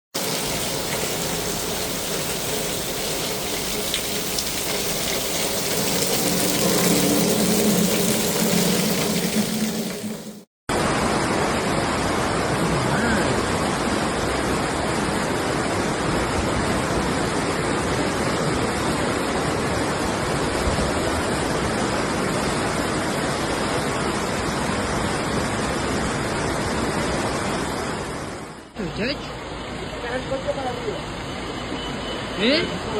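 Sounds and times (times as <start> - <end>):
floodwater rushing: 0.2 - 28.2.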